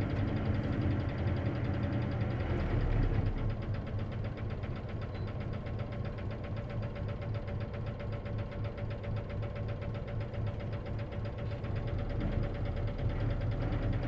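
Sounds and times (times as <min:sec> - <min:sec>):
diesel bus engine running: 0:00.0 - 0:14.0.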